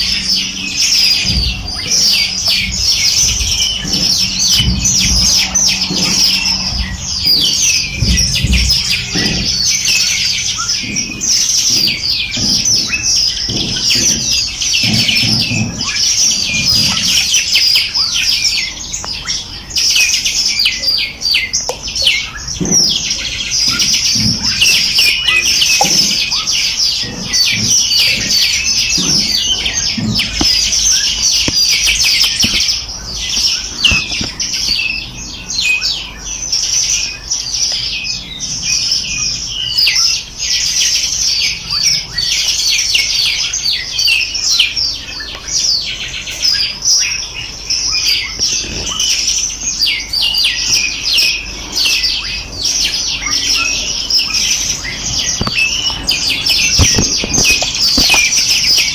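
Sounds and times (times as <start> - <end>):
small birds chirping and trilling: 0.0 - 58.9.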